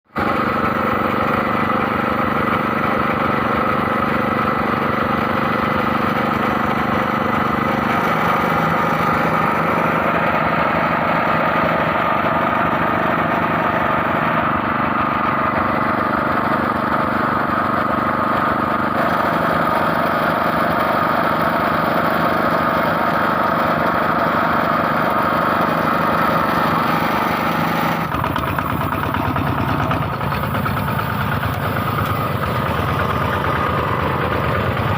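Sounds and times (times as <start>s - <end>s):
small petrol engine running: 0.1s - 34.9s.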